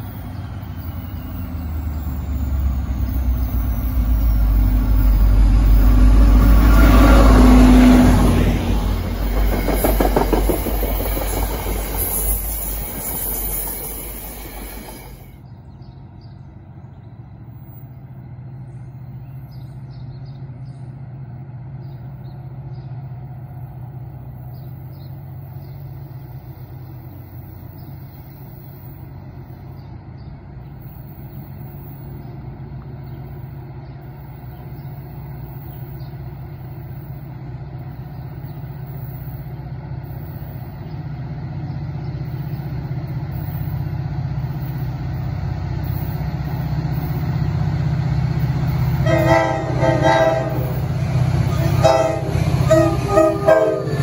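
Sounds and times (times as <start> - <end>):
distant train engine hum: 0.0 - 54.0.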